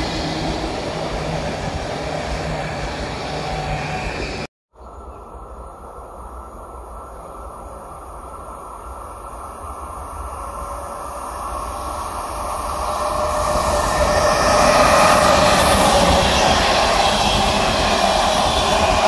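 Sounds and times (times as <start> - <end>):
high whine from train wheels: 0.0 - 19.0
train passing on track: 0.0 - 19.0.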